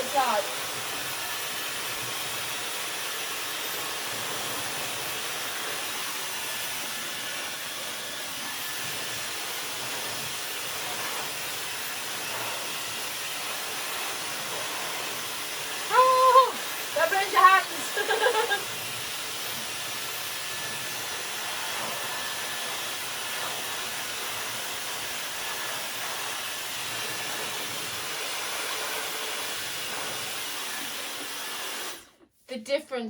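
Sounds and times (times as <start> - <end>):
hair dryer blowing: 0.0 - 32.3.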